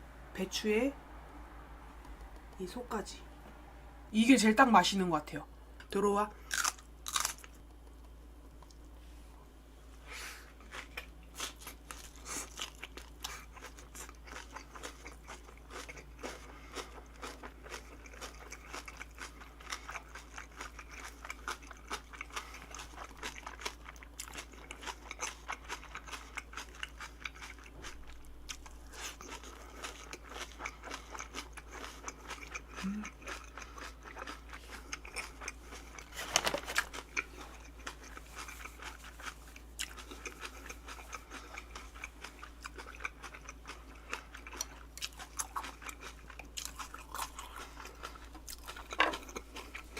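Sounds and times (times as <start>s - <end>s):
crisp crunching and chewing: 6.4s - 8.8s, 10.6s - 49.9s.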